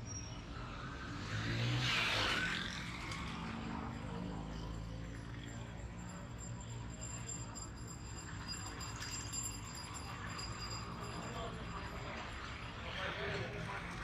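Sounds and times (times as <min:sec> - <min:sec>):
vehicle engines passing: 0:00.0 - 0:14.0.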